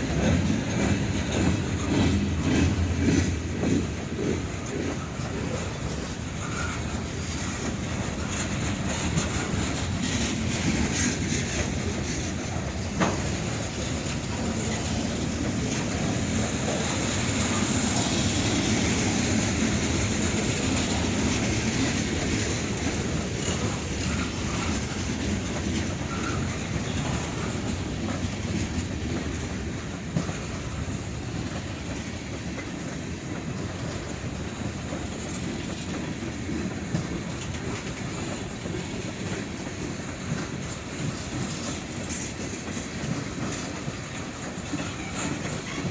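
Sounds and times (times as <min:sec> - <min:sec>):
train wheels clattering over rails: 0:00.0 - 0:45.9.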